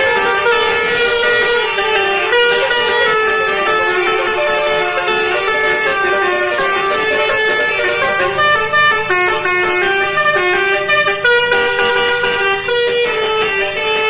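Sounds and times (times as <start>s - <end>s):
musical air horns playing melody: 0.0s - 14.0s.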